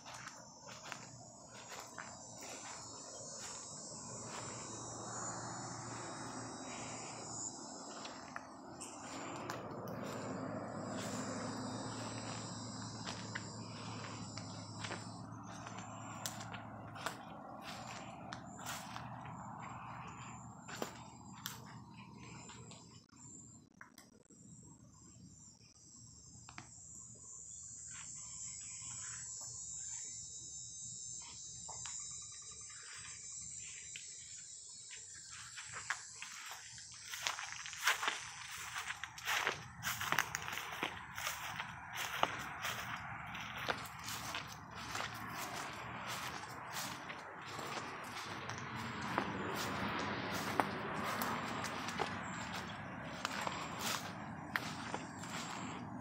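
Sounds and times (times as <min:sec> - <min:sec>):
faint outdoor background noise: 0:00.0 - 0:56.0
insect chorus drone: 0:00.0 - 0:56.0.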